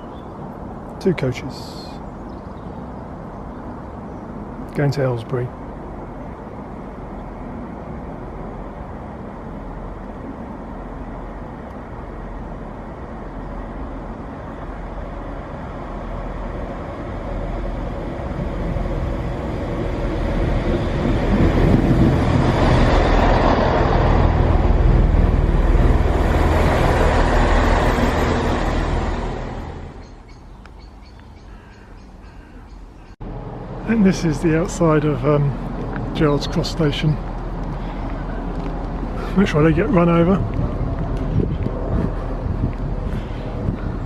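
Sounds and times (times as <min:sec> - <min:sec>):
diesel train running: 0:00.0 - 0:31.5, 0:33.2 - 0:44.0.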